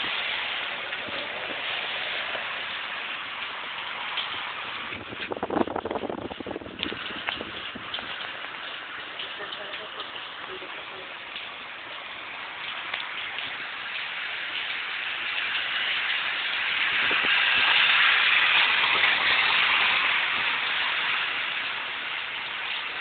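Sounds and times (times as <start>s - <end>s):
heavy rain pouring: 0.0s - 23.0s
raindrop ticks: 0.0s - 23.0s.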